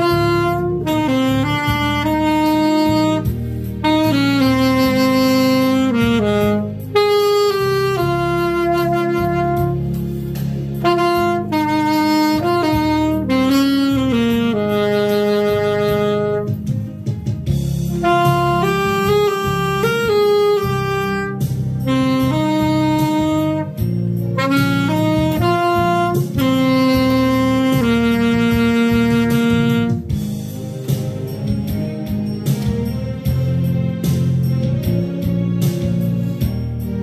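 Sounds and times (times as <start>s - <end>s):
alto saxophone slow melody: 0.0s - 37.0s
low musical accompaniment: 0.0s - 37.0s.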